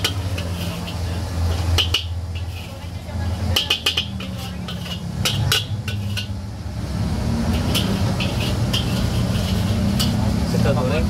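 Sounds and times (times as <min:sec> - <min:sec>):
metal spatula clinking on wok: 0:00.0 - 0:06.4, 0:07.6 - 0:10.2.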